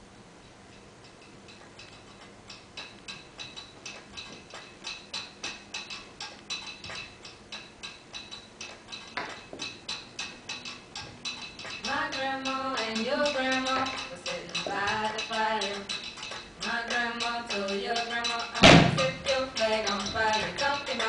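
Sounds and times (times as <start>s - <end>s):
clock ticking: 1.0s - 21.0s.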